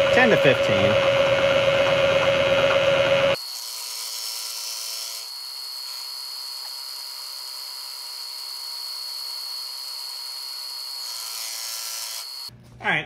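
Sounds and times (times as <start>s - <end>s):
milling machine whine: 0.0s - 3.6s, 5.1s - 12.5s.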